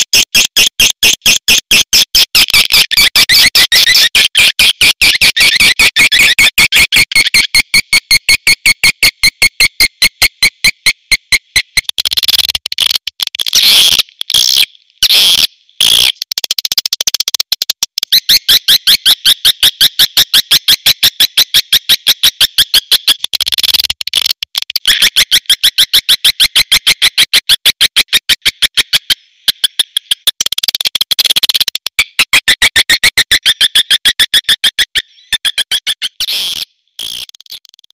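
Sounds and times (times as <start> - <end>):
fast high bird chirps: 0.0 - 12.6, 13.6 - 23.8, 24.8 - 37.8.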